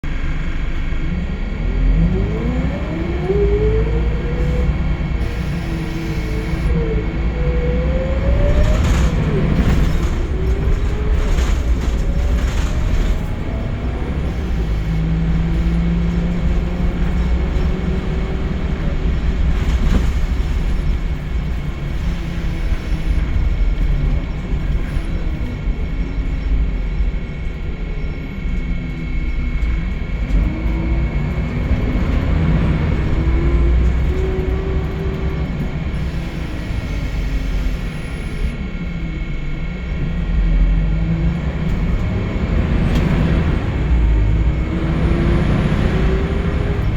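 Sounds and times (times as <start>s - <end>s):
bus diesel engine: 0.0s - 46.9s
constant high whine: 0.0s - 46.9s.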